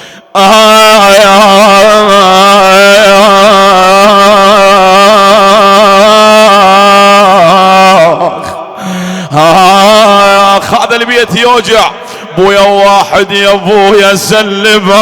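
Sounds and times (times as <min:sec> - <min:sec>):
man chanting a mournful lament: 0:00.0 - 0:15.0.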